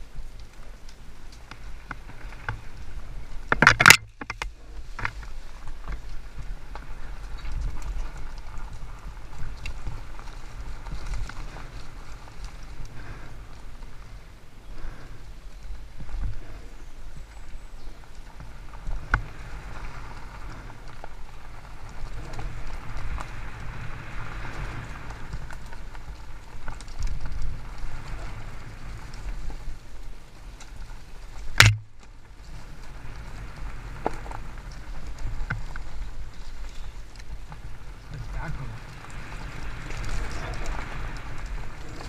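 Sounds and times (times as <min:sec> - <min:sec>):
tyres crunching over dirt trail: 0:00.0 - 0:42.0.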